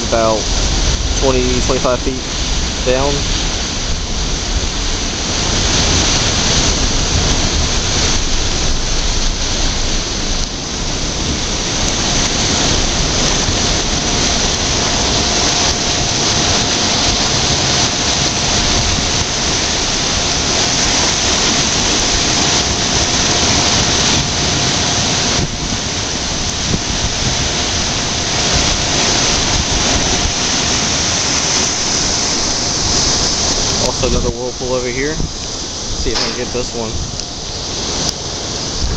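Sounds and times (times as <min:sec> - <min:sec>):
faint steady whine: 0:00.0 - 0:38.9
water churning rushing rumble: 0:00.0 - 0:38.9.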